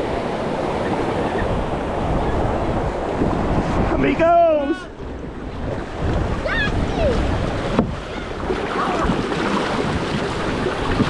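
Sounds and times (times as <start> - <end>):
river water flowing: 0.0 - 11.0
wind buffeting microphone: 0.0 - 11.0.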